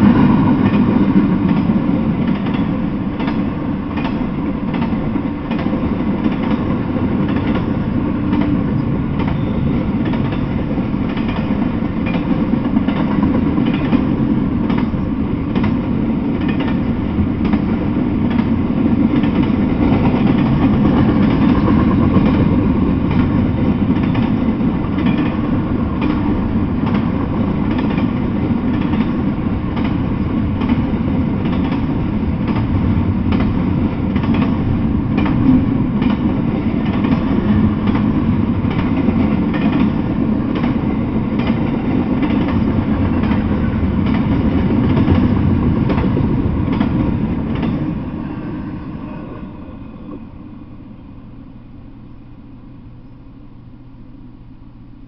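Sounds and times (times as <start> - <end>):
steel wheels rumbling on rails: 0.0 - 52.6
wheels clicking over rail joints: 0.2 - 48.1.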